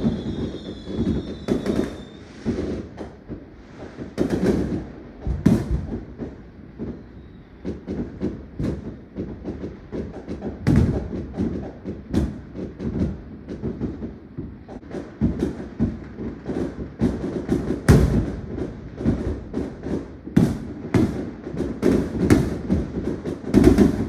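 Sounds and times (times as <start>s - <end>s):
fireworks exploding: 0.0s - 24.0s.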